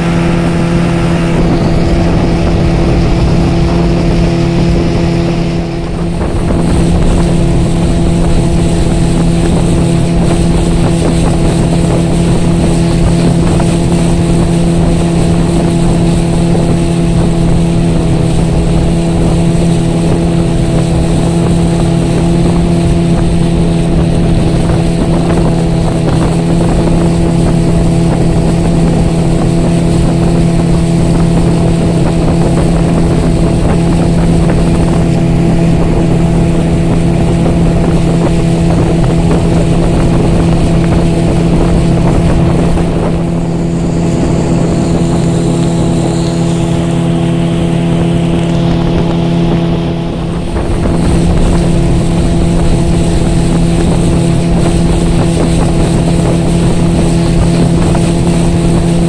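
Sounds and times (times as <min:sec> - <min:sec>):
outboard motor drone: 0:00.0 - 0:59.0
rushing water: 0:00.0 - 0:59.0.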